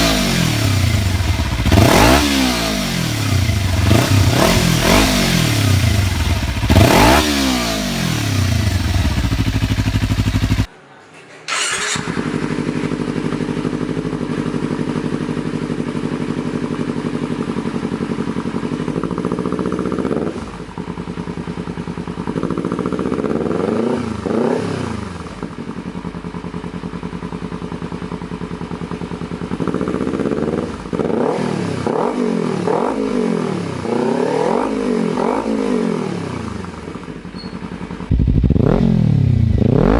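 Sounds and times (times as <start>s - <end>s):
motorcycle engine revving: 0.0s - 10.7s, 11.5s - 39.9s.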